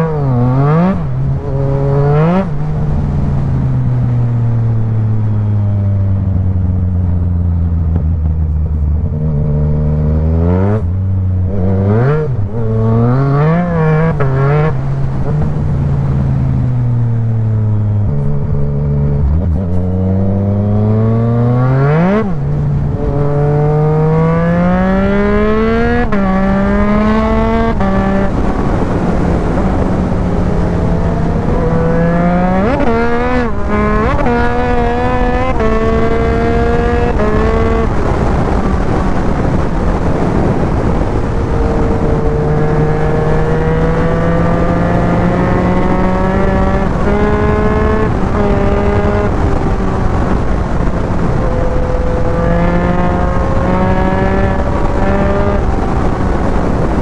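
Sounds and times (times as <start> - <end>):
motorcycle engine accelerating: 0.0 - 57.0
wind rushing: 0.0 - 57.0.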